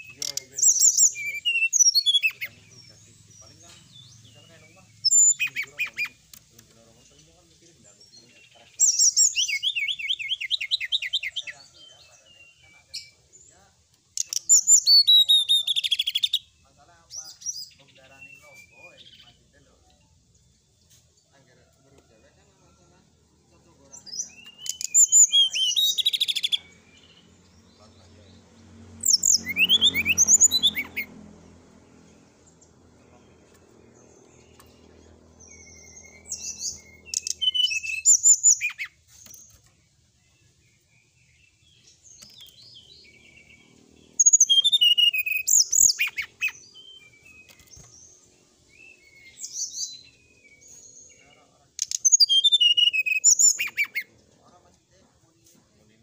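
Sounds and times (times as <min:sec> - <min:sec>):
bird chirping song: 0:00.0 - 0:56.0.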